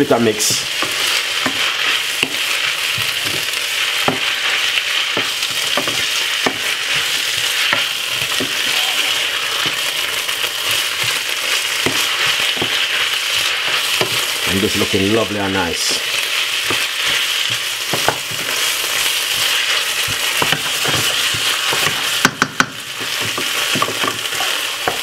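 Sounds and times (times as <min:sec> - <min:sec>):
food sizzling in a frying pan: 0:00.0 - 0:25.0
wooden spoon scraping a pan: 0:00.3 - 0:25.0.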